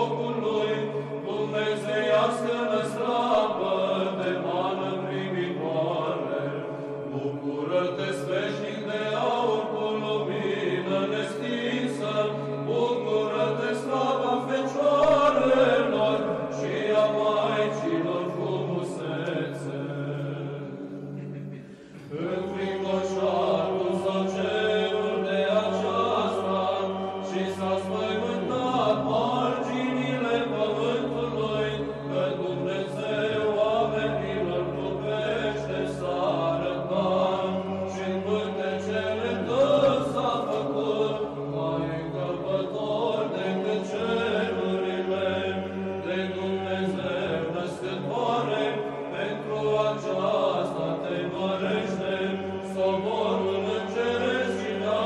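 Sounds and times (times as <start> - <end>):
voices chanting over a drone: 0.0 - 55.0.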